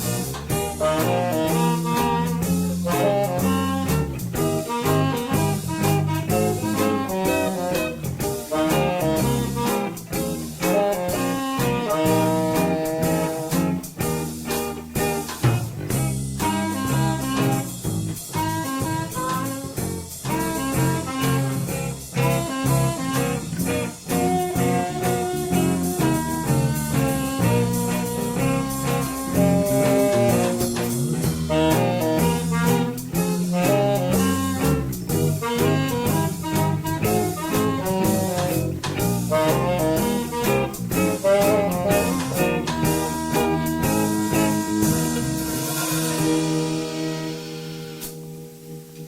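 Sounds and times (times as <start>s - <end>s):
band playing upbeat swing tune: 0.0s - 49.0s
drum kit beat: 0.0s - 49.0s
guitar: 0.0s - 49.0s
steady bass line: 0.0s - 49.0s.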